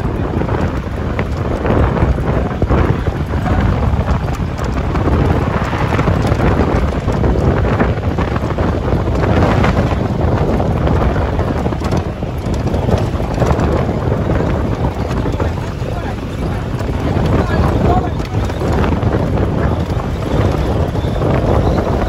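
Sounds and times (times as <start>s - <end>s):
vehicle rumble on gravel road: 0.0s - 22.0s
wind buffeting microphone: 0.0s - 22.0s.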